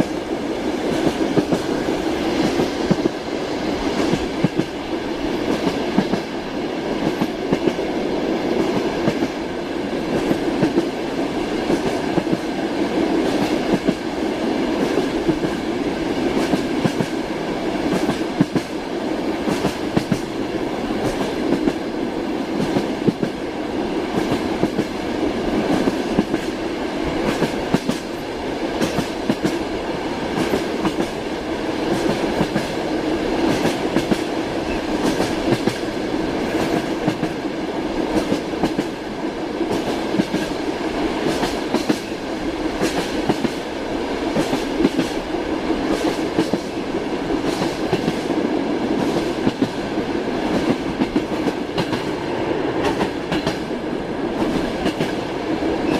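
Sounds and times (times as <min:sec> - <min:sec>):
train running rumble: 0:00.0 - 0:55.9.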